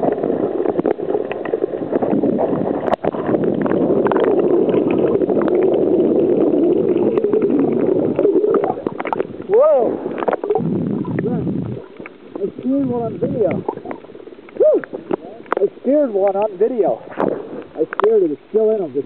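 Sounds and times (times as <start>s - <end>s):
clicks and crackles: 0.0s - 18.8s
low underwater rush: 0.0s - 19.0s.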